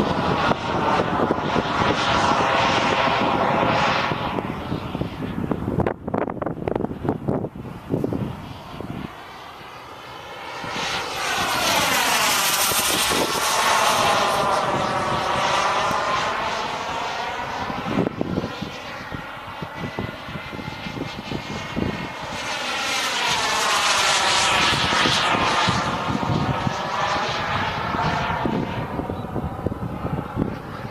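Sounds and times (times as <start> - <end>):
model jet engine flying past: 0.0 - 30.9.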